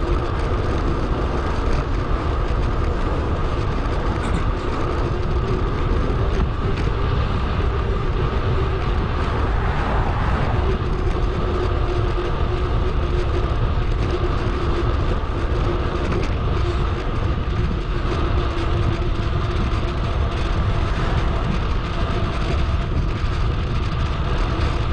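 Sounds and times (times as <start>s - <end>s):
bicycle tyre and road noise: 0.0s - 24.9s
wind rumble on microphone: 0.0s - 24.9s.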